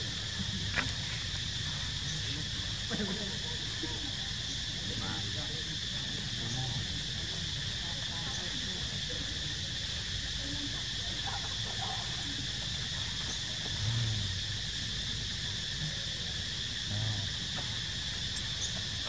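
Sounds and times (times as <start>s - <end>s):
insect chorus droning: 0.0s - 19.0s.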